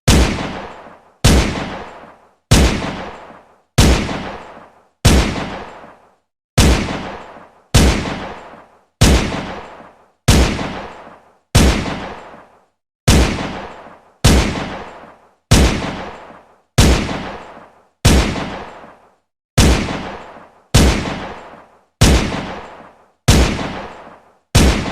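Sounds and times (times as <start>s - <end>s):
pistol gunshots: 0.1s - 6.0s, 6.6s - 12.5s, 13.1s - 19.0s, 19.6s - 24.9s.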